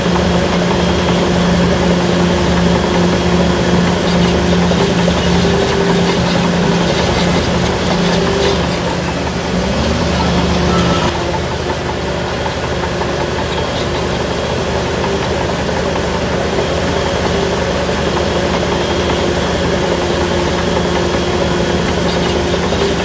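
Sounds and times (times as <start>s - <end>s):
diesel earthmoving machinery running: 0.0s - 23.0s.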